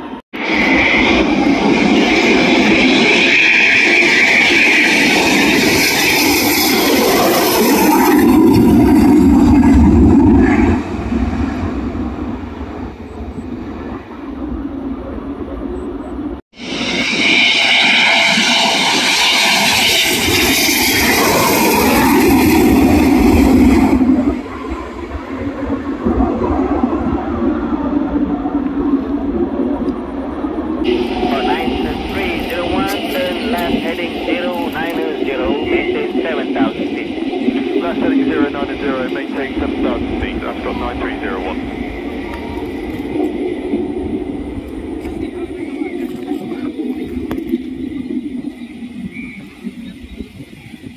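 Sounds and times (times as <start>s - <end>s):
jet engine roar with whine: 0.0s - 50.9s.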